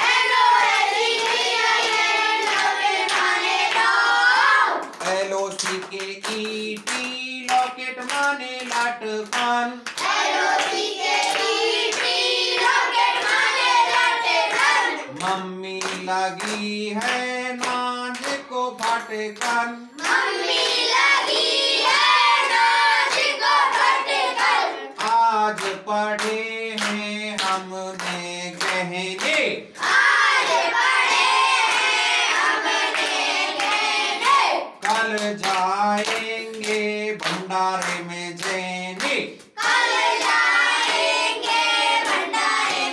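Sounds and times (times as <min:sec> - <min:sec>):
hands clapping rhythmically: 0:00.0 - 0:42.9
man and children singing: 0:00.0 - 0:42.9.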